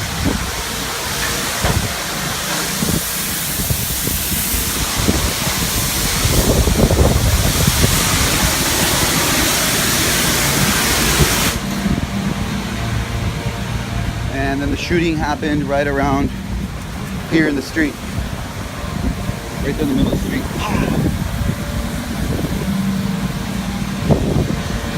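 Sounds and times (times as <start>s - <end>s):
loud rushing hiss: 0.0s - 24.9s.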